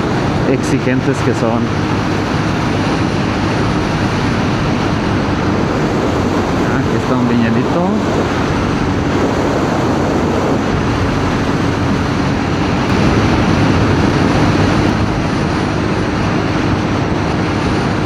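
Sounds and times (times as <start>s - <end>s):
motorcycle engine hum: 0.0s - 18.0s
wind and road noise: 0.0s - 18.0s.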